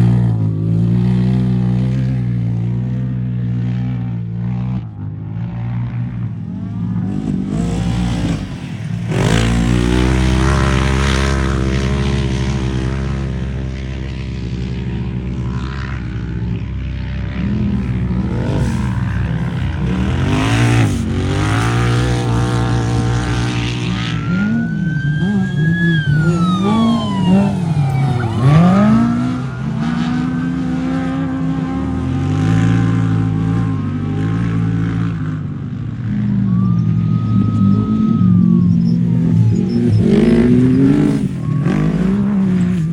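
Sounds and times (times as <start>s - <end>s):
race vehicle engines revving: 0.0s - 42.9s.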